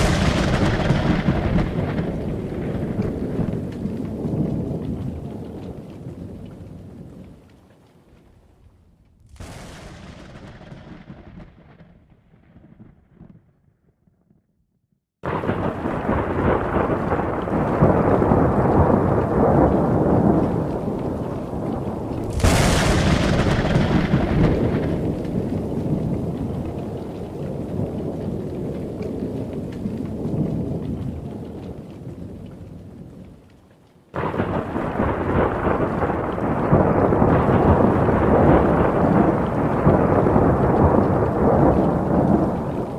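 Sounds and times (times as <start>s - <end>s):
thunder crack: 0.0s - 7.0s, 9.0s - 13.8s, 15.2s - 31.5s, 34.2s - 42.9s
thunder rolling: 0.0s - 7.4s, 8.6s - 13.9s, 15.2s - 33.4s, 34.2s - 42.9s
rain: 0.0s - 13.3s, 15.2s - 42.9s.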